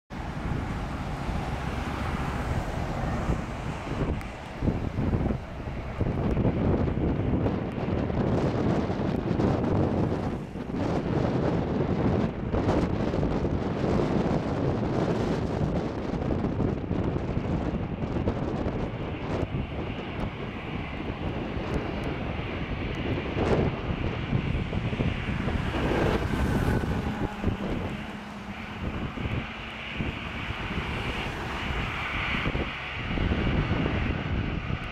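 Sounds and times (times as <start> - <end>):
jet engines rushing: 0.1 - 34.9.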